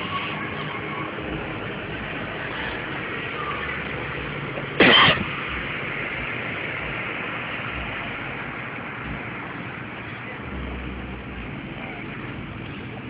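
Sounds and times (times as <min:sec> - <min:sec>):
cars idling: 0:00.0 - 0:13.0.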